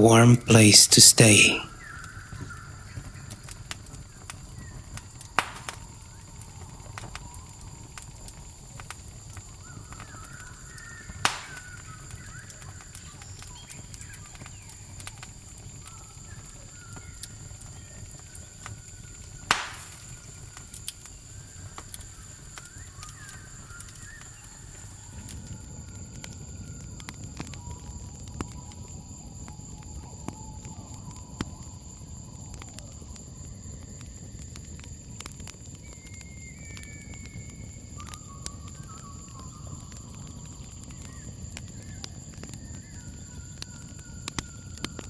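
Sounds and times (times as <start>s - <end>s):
campfire crackling and popping: 0.1s - 45.0s
crickets chirping: 1.7s - 45.0s.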